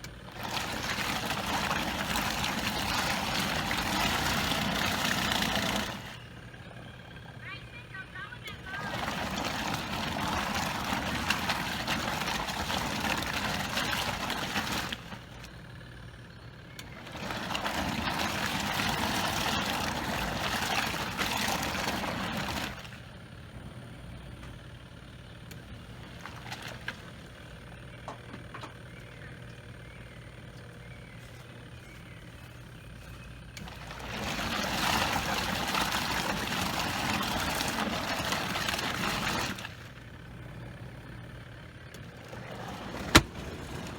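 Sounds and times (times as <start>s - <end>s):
low steady hum: 0.0s - 43.9s
washing machine churning water: 0.0s - 43.9s.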